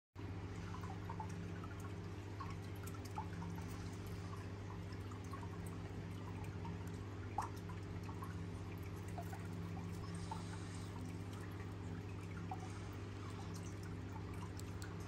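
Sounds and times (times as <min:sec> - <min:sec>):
low electrical hum: 0:00.2 - 0:15.0
faint small ticks: 0:01.1 - 0:15.0.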